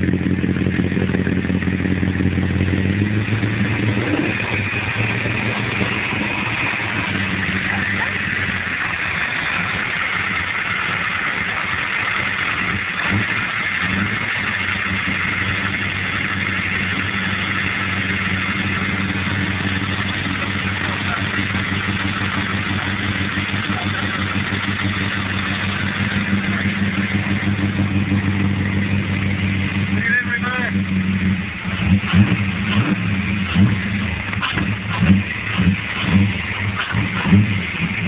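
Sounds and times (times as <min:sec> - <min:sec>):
car engine idling with lope: 0:00.0 - 0:38.0.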